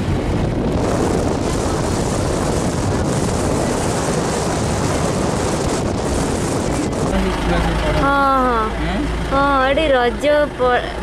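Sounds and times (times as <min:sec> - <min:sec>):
vehicle rumbling on road: 0:00.0 - 0:11.0
wind rushing over microphone: 0:00.0 - 0:11.0.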